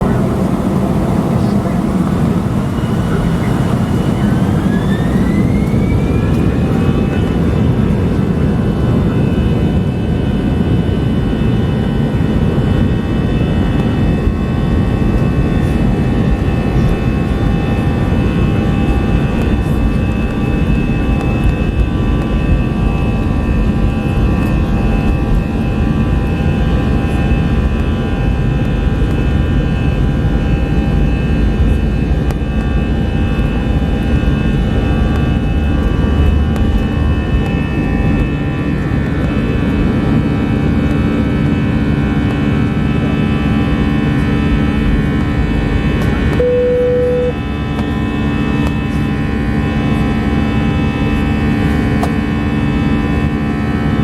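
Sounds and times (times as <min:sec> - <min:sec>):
heavy rumble: 0:00.0 - 0:54.0
jet engines whining: 0:00.0 - 0:54.0.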